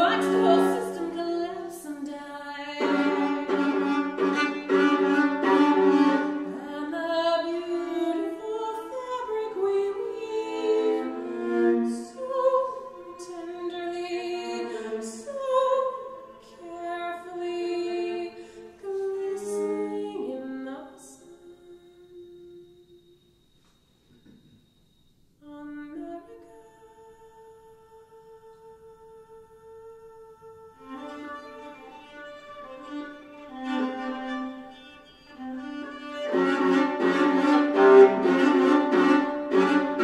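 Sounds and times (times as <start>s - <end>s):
solo violin bowed: 0.0s - 23.2s, 25.4s - 40.0s.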